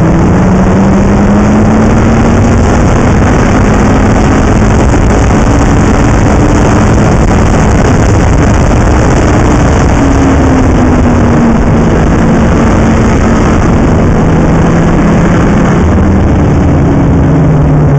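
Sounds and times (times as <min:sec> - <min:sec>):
snowmobile engine running: 0:00.0 - 0:17.9.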